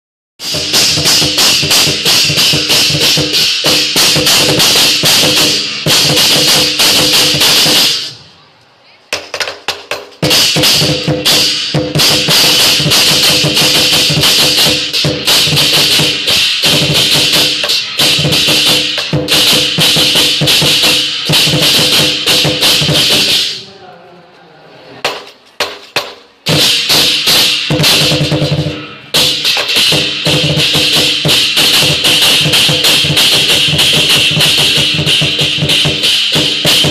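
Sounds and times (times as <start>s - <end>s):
drum beat: 0.4s - 8.1s, 9.1s - 23.6s, 25.0s - 36.9s
clashing cymbals: 0.4s - 8.2s, 10.2s - 23.7s, 26.4s - 36.9s.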